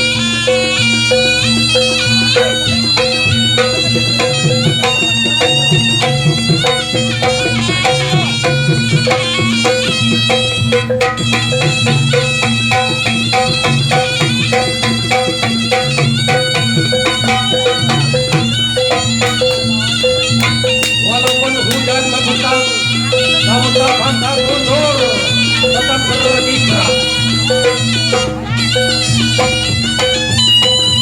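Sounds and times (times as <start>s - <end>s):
drum and gamelan percussion: 0.0s - 31.0s
reedy wind melody: 0.0s - 31.0s.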